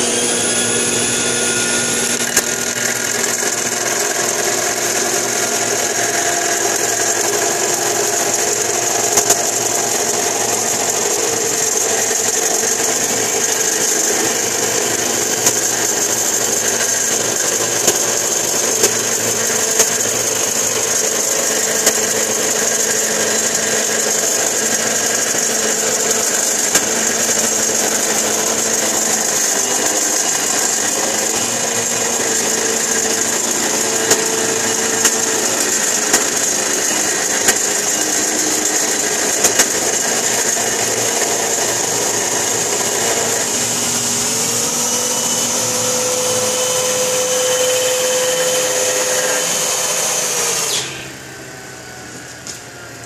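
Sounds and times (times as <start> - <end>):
table saw blade cutting wood: 0.0 - 52.6
drill spinning: 0.0 - 53.0.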